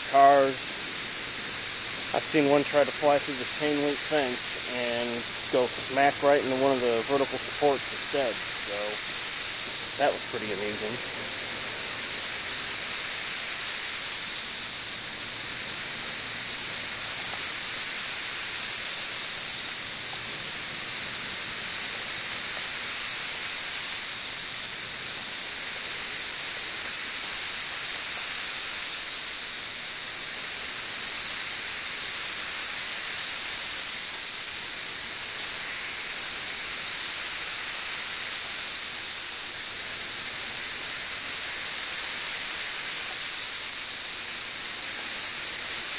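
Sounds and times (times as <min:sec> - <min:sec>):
cicadas chorus drone: 0:00.0 - 0:45.9.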